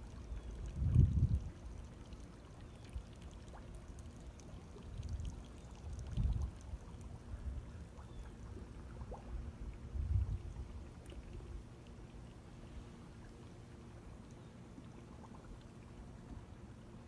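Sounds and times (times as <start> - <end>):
dull low water surges: 0.0 - 17.0.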